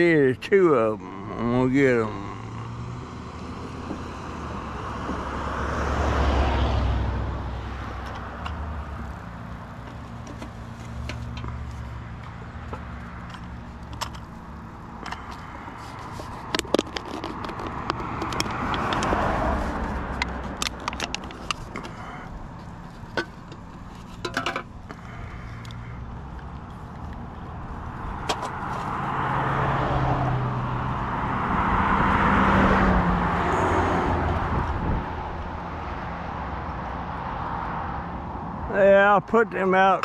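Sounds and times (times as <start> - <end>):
car passing: 0.0 - 40.0
low rumble of road traffic: 0.0 - 40.0.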